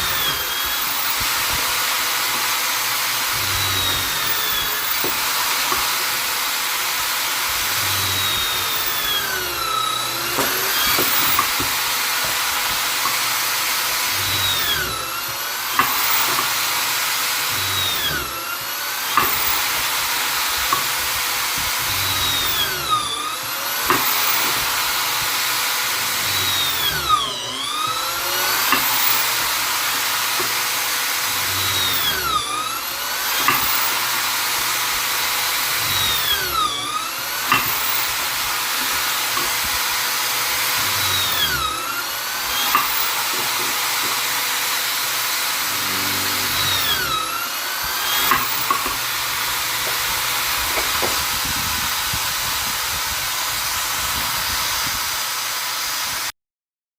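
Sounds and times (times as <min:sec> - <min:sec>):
drill motor whining: 0:00.0 - 0:56.3.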